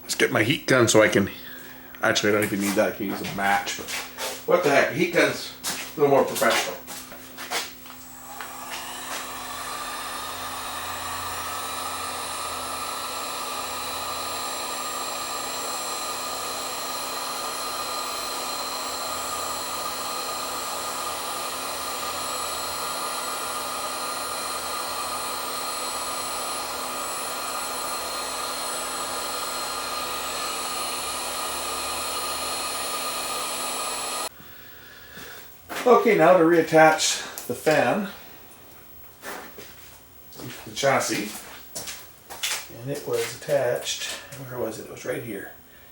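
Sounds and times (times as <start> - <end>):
heat gun fan whir: 0.0 - 45.9.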